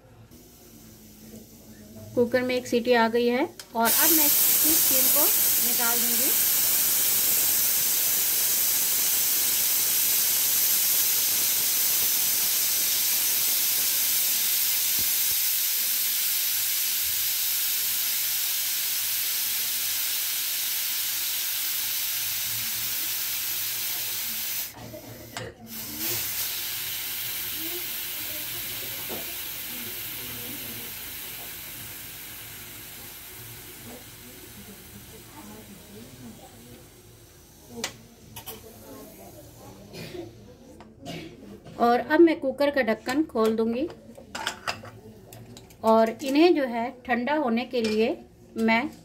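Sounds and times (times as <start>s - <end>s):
pressure cooker venting steam hiss: 0.3s - 2.8s, 3.8s - 40.8s.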